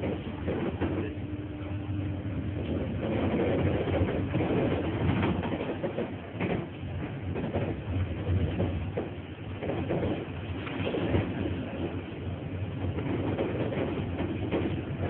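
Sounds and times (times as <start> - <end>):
tram running with low hum: 0.0 - 15.0
wheels clicking over rails: 2.5 - 15.0.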